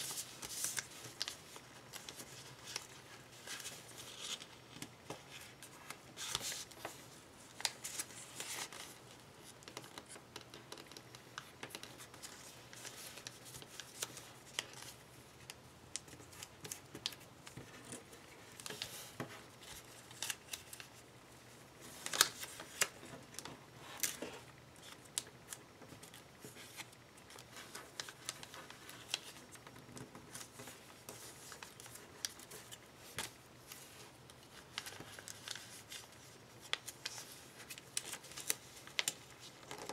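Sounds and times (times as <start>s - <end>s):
paper being folded and creased: 0.0s - 21.0s, 21.8s - 39.9s.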